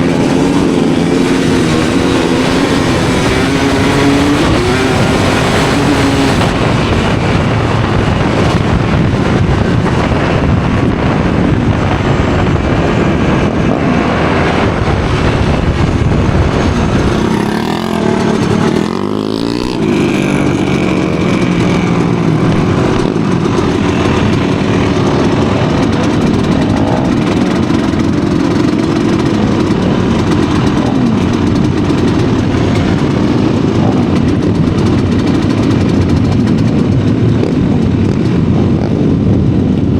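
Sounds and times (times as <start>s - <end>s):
motorcycles running at high revs: 0.0s - 39.9s.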